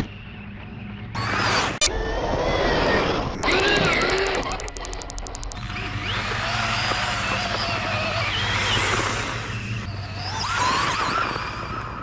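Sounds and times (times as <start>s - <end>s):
electric motor whining: 1.2s - 12.0s.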